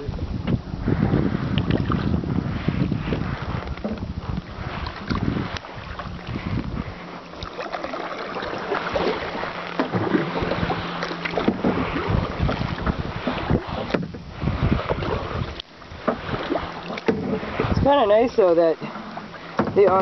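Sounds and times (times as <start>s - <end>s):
kayak paddles splashing: 0.0s - 20.0s
wind buffeting microphone: 0.0s - 20.0s.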